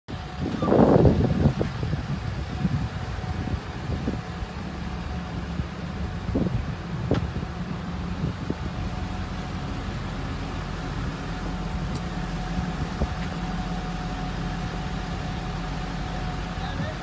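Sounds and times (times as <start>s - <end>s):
truck engine idling: 0.1s - 17.0s.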